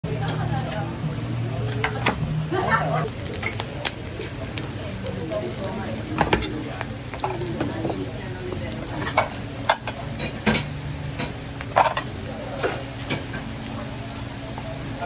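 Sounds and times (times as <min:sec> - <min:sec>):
food sizzling in oil: 0:00.1 - 0:15.0.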